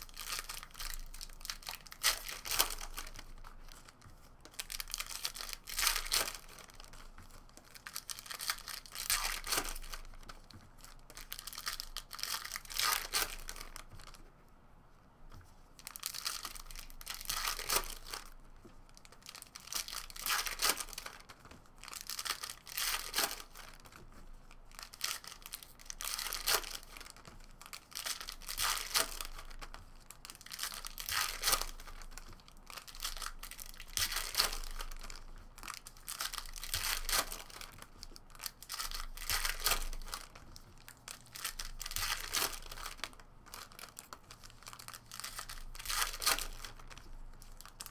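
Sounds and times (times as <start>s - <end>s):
foil wrappers tearing and crinkling: 0.0s - 3.9s, 4.6s - 7.1s, 7.8s - 10.2s, 10.8s - 13.8s, 15.8s - 18.3s, 19.2s - 23.9s, 24.7s - 47.9s.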